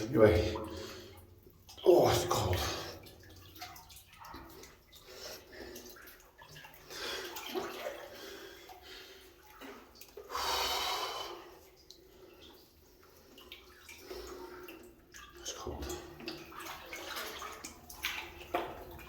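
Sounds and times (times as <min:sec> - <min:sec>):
water splashing around wading person: 0:00.0 - 0:10.6, 0:11.6 - 0:19.0.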